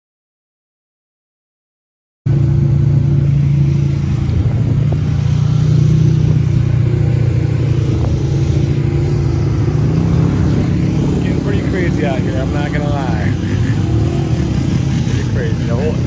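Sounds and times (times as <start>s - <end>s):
vehicle engine droning: 2.3s - 16.0s.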